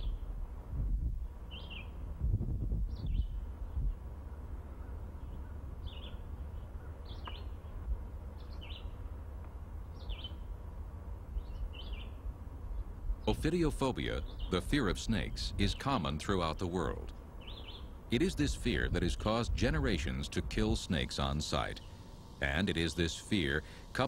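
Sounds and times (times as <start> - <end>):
bird chirping: 0.0 - 0.3, 1.5 - 2.0, 2.9 - 9.0, 9.8 - 10.5, 11.3 - 24.0.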